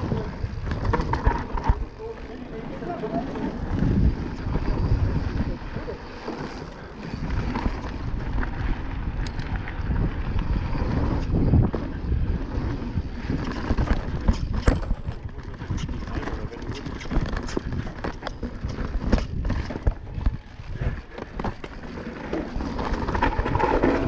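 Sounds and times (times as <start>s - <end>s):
bike knocking and rattling: 0.0s - 24.0s
tyre noise on dirt: 0.0s - 24.0s
wind buffeting microphone: 0.0s - 24.0s.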